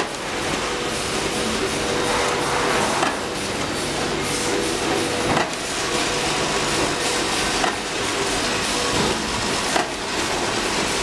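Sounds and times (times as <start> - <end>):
crimping machine humming: 0.0 - 11.0
noisy mechanical background: 0.0 - 11.0.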